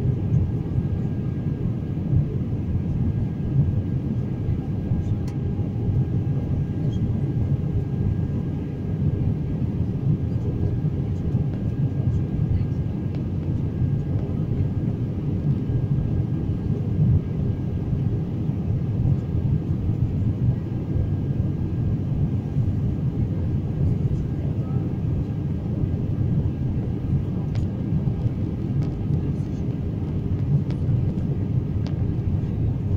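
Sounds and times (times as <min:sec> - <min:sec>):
airliner cabin engine rumble: 0:00.0 - 0:32.9
faint steady whine: 0:00.0 - 0:32.9.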